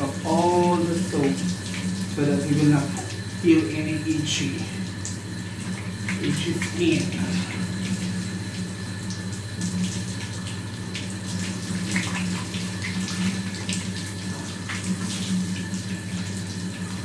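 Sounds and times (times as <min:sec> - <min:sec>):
shower water running and splashing: 0:00.0 - 0:17.0
steady low hum: 0:00.0 - 0:17.0
water drips: 0:00.1 - 0:17.0.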